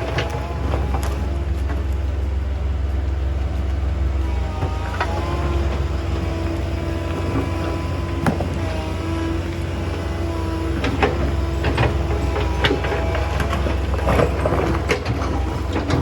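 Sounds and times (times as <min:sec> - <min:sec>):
diesel engine running: 0:00.0 - 0:16.0
hydraulic whine: 0:00.0 - 0:16.0.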